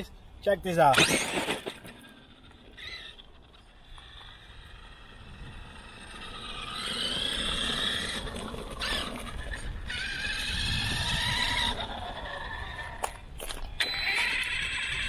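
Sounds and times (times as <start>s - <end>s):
toy truck electric motor whine: 1.0s - 13.2s, 13.8s - 15.0s
tyres rumbling on pavement: 1.2s - 13.3s.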